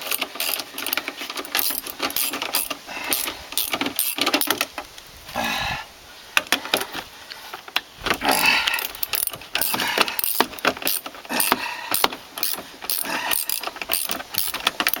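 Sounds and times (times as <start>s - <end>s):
hand tools clicking: 0.0s - 4.9s, 6.4s - 15.0s.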